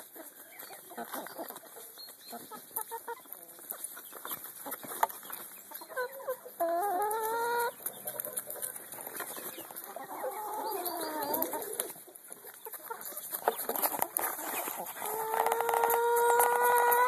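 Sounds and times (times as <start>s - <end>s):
beaks pecking at grain: 0.0s - 17.0s
hens clucking: 0.0s - 17.0s.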